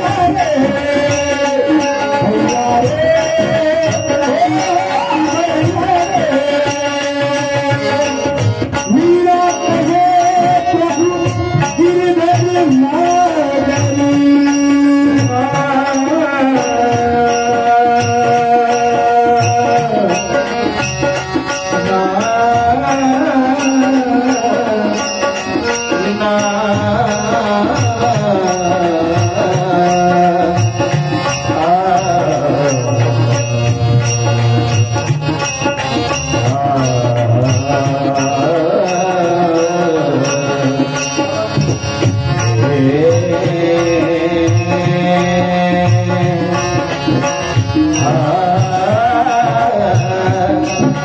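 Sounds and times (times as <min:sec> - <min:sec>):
high ticking beat: 0:00.0 - 0:51.0.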